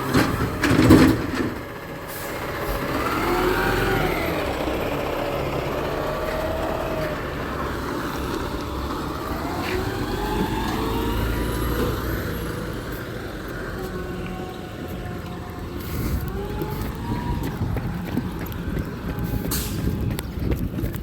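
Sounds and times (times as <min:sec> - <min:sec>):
diesel engine running: 0:00.0 - 0:21.0
whining tone: 0:03.1 - 0:20.2.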